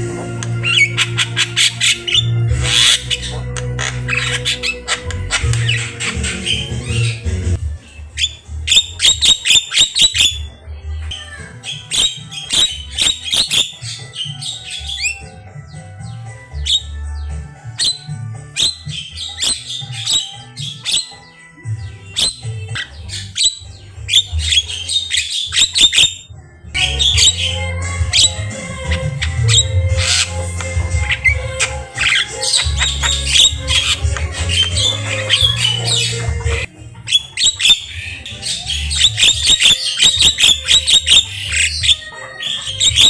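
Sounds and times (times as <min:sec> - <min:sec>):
background music with bass: 0:00.0 - 0:43.0
myna squawking and chirping: 0:00.0 - 0:43.0.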